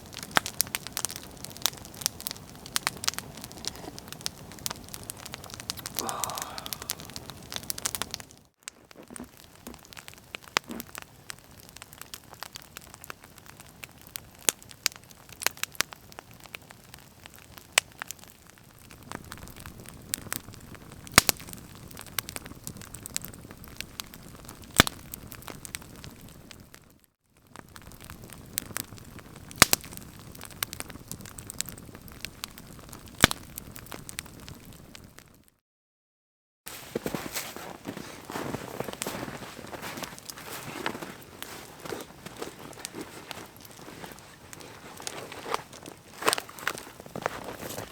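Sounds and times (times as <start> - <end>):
campfire crackling and popping: 0.0 - 35.5, 36.7 - 47.9.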